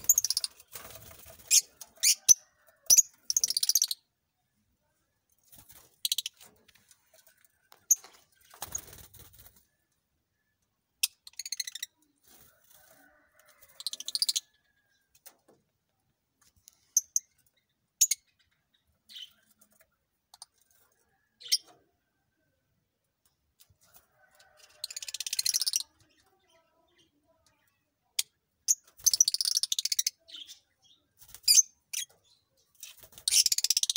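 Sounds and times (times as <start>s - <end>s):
birds chirping and squeaking: 0.0s - 4.1s, 5.4s - 9.6s, 11.0s - 15.5s, 16.6s - 21.8s, 23.7s - 33.9s.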